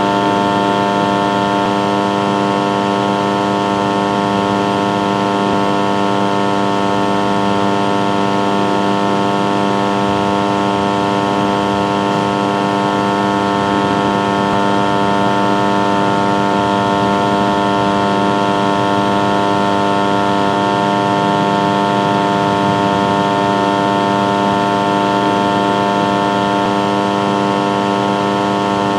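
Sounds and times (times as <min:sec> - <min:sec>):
voltage stabiliser humming loudly: 0:00.0 - 0:28.9.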